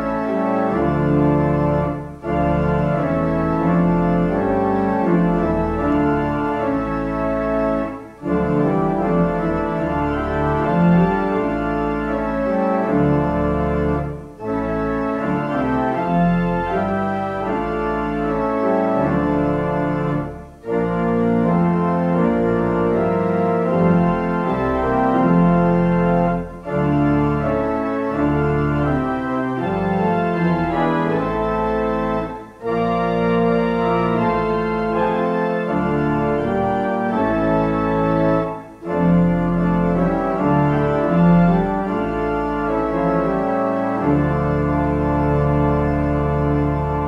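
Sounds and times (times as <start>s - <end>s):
church organ chords: 0.0s - 47.0s.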